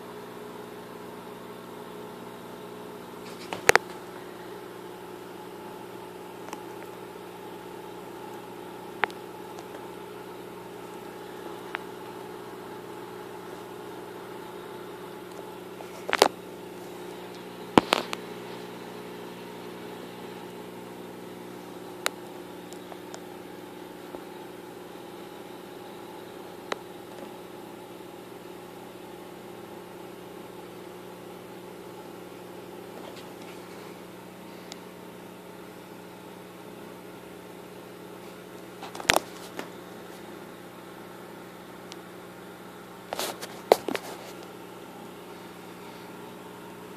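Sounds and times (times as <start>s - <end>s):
aquarium equipment electrical hum: 0.0s - 46.9s.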